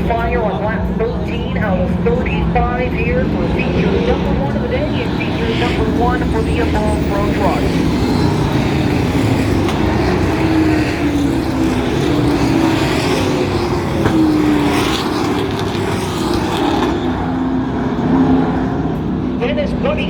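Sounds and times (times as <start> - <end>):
truck engines running: 0.0 - 20.0.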